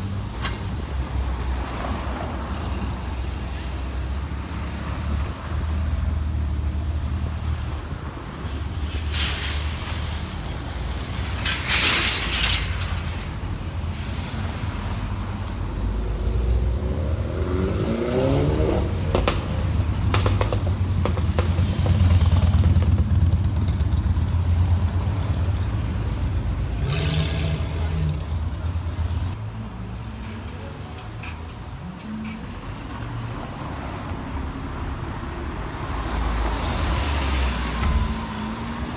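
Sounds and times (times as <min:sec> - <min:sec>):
car engines rumbling: 0:00.0 - 0:38.9.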